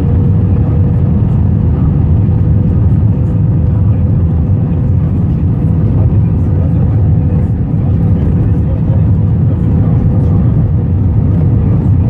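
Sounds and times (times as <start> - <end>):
low rumble inside airliner cabin: 0.0 - 12.0.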